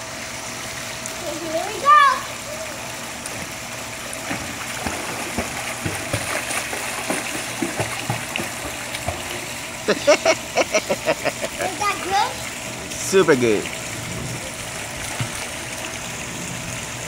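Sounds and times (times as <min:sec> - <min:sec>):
pool water splashing: 0:00.0 - 0:17.0
running water: 0:00.0 - 0:17.0.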